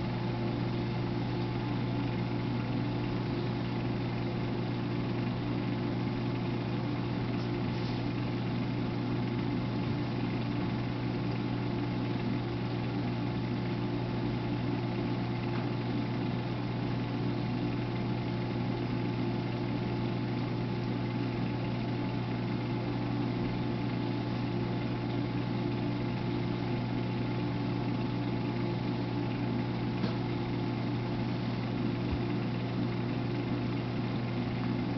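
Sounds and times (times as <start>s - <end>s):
aquarium equipment motor hum: 0.0s - 34.9s.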